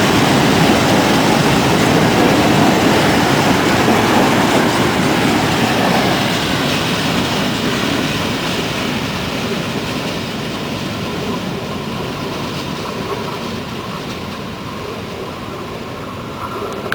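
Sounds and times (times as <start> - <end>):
freight train rolling on rails: 0.0 - 16.9.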